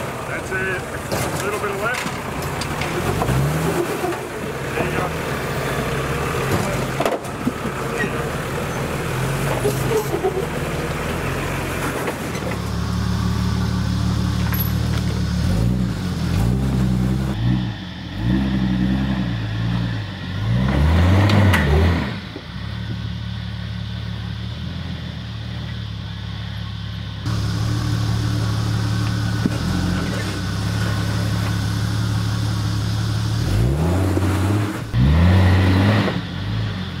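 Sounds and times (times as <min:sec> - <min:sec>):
engine crawling over rocks: 0:00.0 - 0:37.0
off-road vehicle engine revving: 0:00.0 - 0:37.0.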